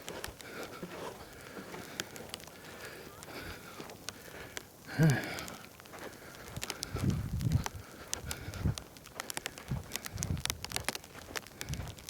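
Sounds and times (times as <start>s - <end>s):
footsteps crunching on snow: 0.0s - 12.0s.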